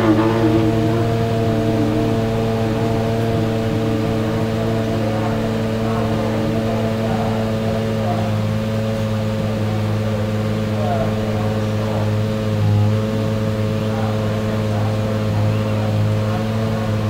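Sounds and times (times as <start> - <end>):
race car engine idling: 0.0 - 17.0.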